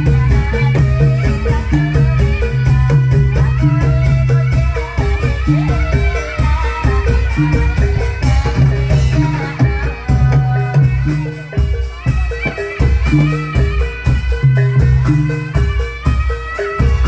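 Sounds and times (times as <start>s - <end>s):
drum strokes: 0.0s - 17.0s
high melody line: 0.0s - 17.0s
low pitched percussion notes: 0.0s - 17.0s.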